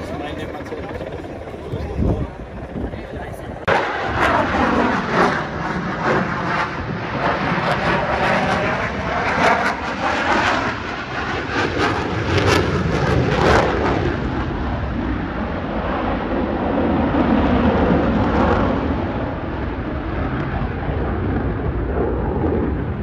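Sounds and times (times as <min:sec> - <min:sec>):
fighter jet flying overhead: 0:00.0 - 0:23.0.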